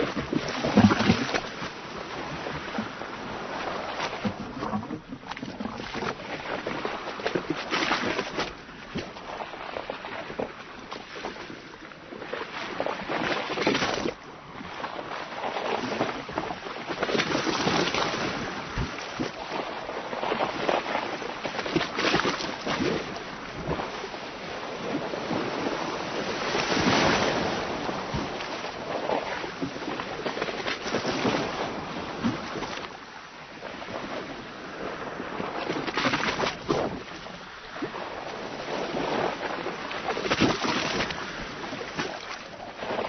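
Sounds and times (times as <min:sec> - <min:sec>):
waves splashing against boat hull: 0:00.0 - 0:43.0.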